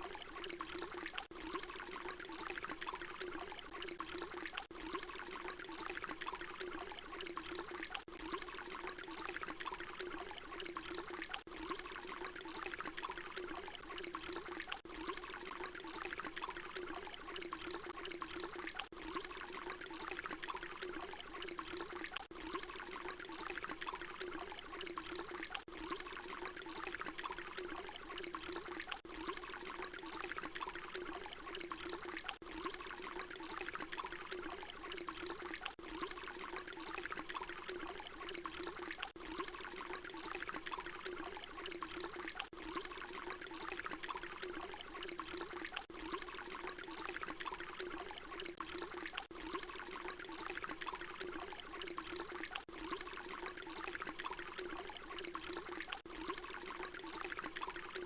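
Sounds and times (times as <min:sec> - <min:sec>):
water pouring and splashing: 0:00.0 - 0:58.0.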